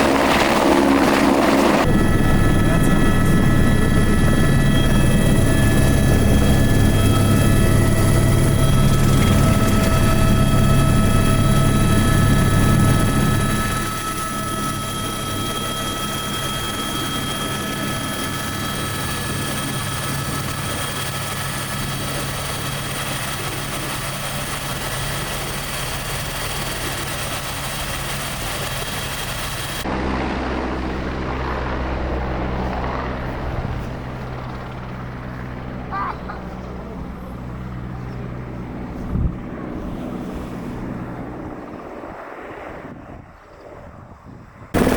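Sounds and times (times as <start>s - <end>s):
helicopter rotor and turbine: 0.0s - 44.9s.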